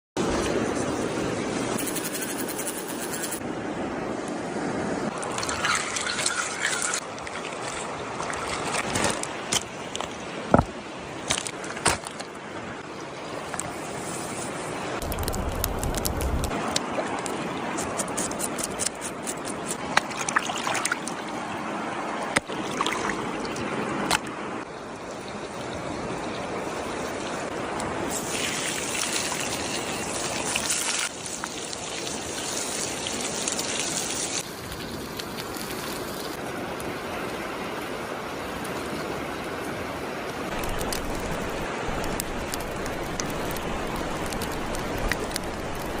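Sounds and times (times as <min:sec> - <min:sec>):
stream water trickling: 0:05.0 - 0:46.0.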